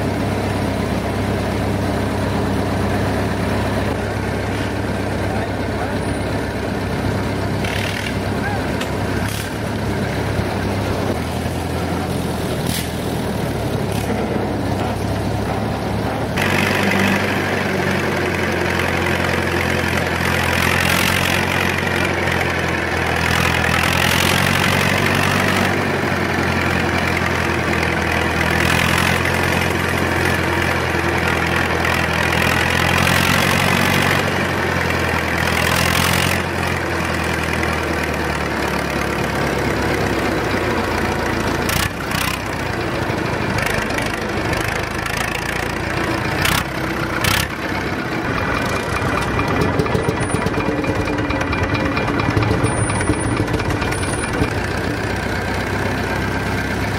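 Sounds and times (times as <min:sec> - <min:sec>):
old tractor engine running: 0:00.0 - 0:56.9.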